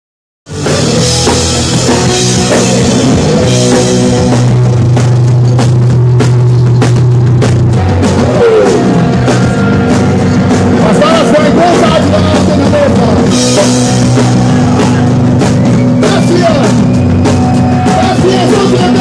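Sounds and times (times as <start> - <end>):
drum kit beat: 0.5 - 19.0
punk rock band playing live: 0.5 - 19.0.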